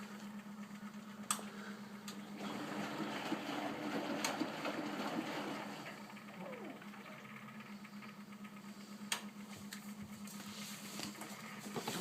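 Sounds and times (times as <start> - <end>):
washing machine motor hum: 0.0 - 12.0
washing machine rushing noise: 0.0 - 12.0.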